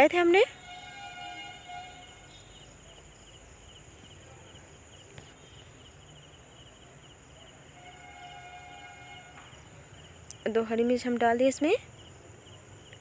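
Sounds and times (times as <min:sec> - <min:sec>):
low steady hum: 0:00.0 - 0:11.2
faint insect chirping: 0:00.0 - 0:13.0.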